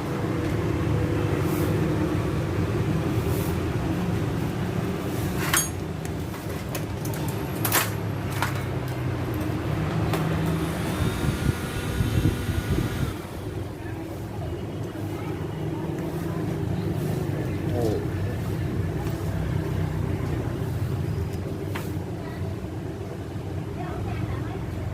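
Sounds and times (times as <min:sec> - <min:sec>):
traffic rumble: 0:00.0 - 0:24.9.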